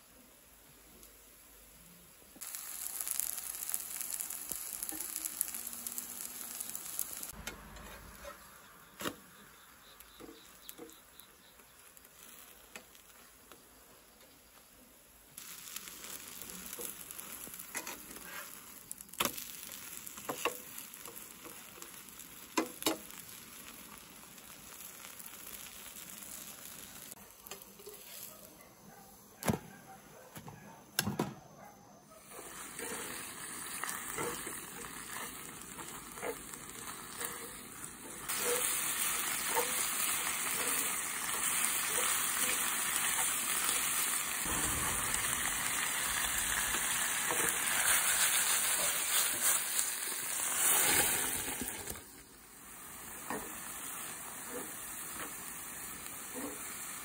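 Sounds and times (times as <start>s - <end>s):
batter sizzling in hot oil: 0.0s - 28.5s, 32.2s - 57.0s.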